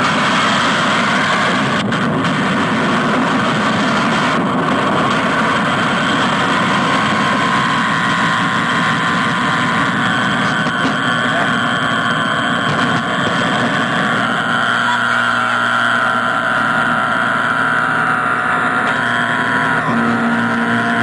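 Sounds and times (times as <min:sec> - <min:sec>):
harsh electronic noise music: 0:00.0 - 0:21.0.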